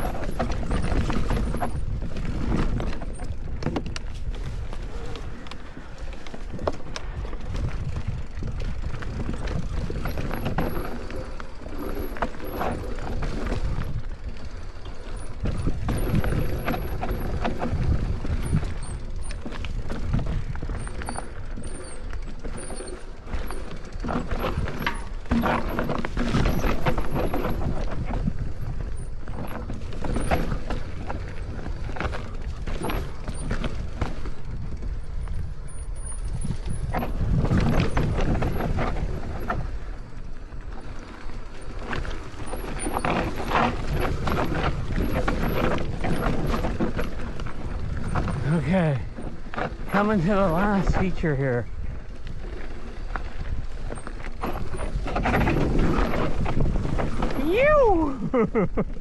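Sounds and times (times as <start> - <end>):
bike chain and frame rattling: 0.0 - 58.9
bike tyres rolling over dirt: 0.0 - 59.0.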